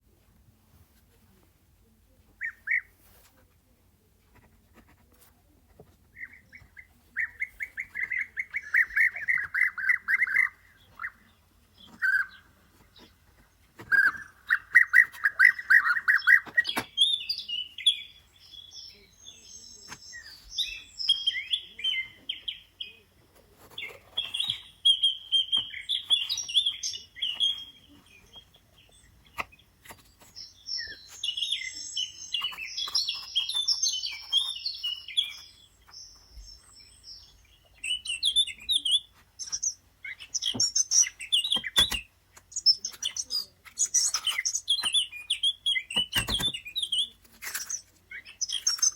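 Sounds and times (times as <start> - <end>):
bird chirping and twittering: 6.2 - 48.9.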